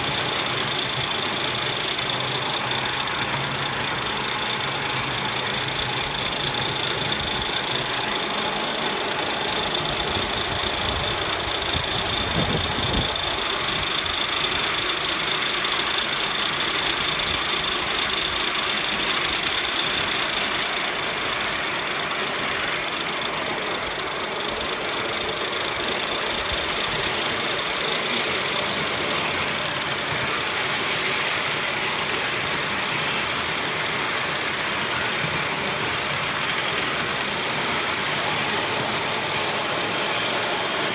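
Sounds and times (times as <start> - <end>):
steam exhaust rushing: 0.0 - 40.9
wheel and rail noise: 0.0 - 40.9.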